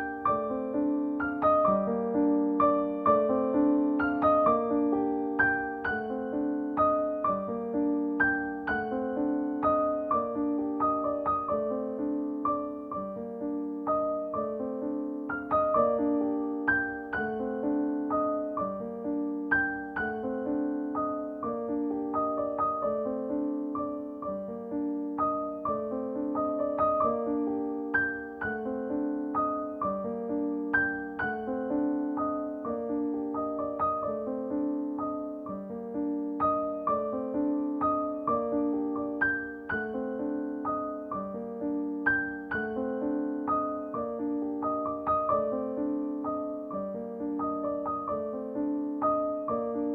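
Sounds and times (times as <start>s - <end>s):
gentle piano music: 0.0s - 49.9s.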